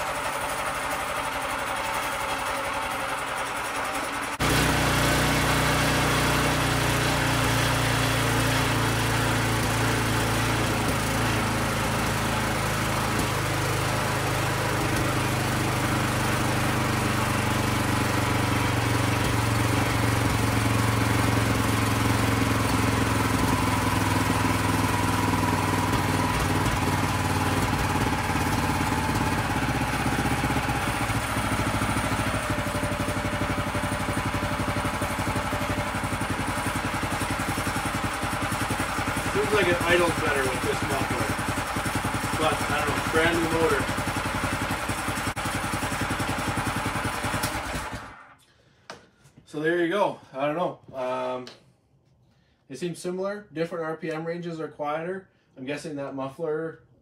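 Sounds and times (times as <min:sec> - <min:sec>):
small engine running: 0:00.0 - 0:48.5.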